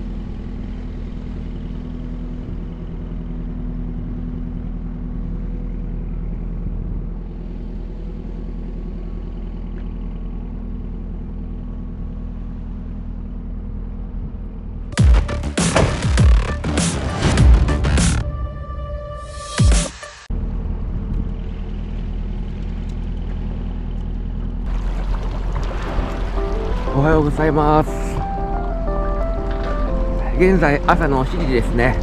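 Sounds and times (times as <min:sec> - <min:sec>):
engine running steadily: 0:00.0 - 0:18.6, 0:19.4 - 0:32.0.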